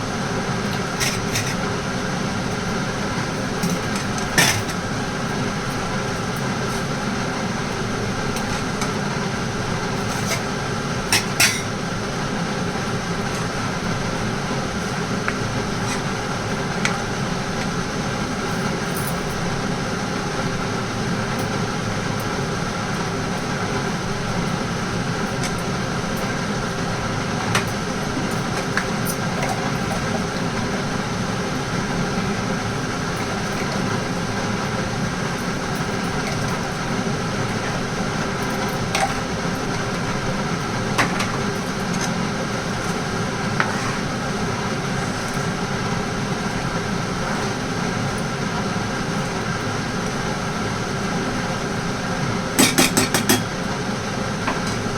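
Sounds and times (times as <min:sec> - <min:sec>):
steady mechanical hum: 0:00.0 - 0:54.9.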